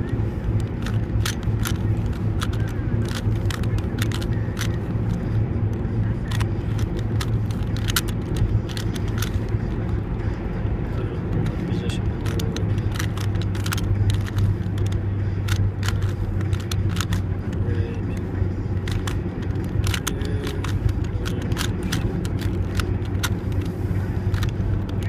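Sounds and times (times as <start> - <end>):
puzzle cube clicking: 0.0 - 10.0, 11.3 - 25.0
steady low rumble: 0.0 - 25.0.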